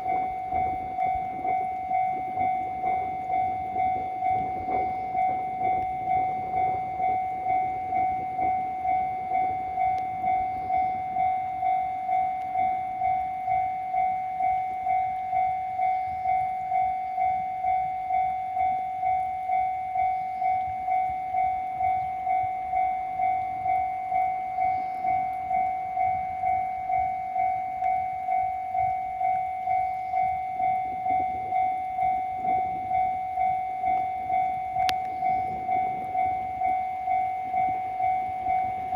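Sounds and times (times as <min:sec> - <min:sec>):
level-crossing warning bell: 0:00.0 - 0:38.9.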